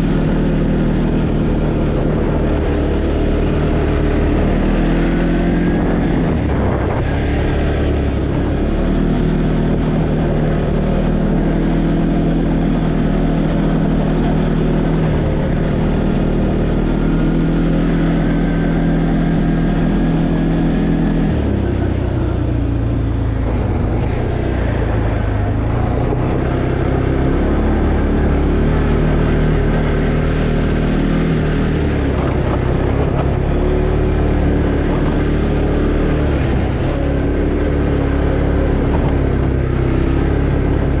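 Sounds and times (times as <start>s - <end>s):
atv engine running: 0.0s - 41.0s.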